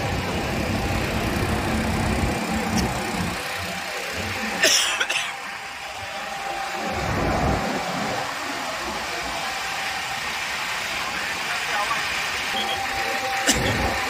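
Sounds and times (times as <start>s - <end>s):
fire engine motor running: 0.0s - 14.0s.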